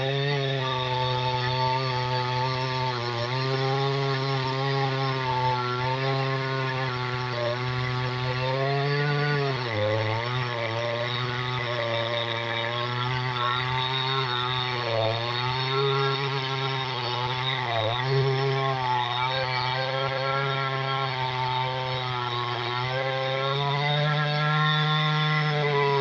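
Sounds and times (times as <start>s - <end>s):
chainsaw cutting tree: 0.0s - 26.0s.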